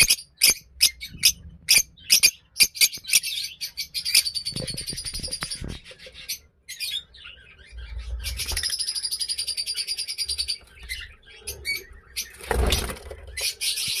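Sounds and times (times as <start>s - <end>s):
lovebirds chattering: 0.0s - 14.0s.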